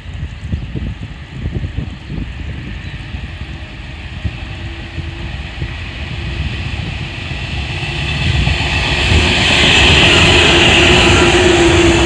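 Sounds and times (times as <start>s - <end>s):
electric train rumbling on track: 0.0s - 12.0s.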